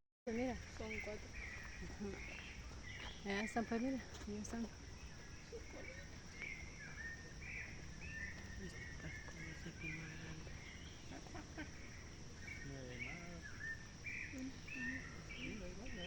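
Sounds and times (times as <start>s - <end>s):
birds chirping: 0.3s - 16.0s
high-pitched insect drone: 0.3s - 16.0s.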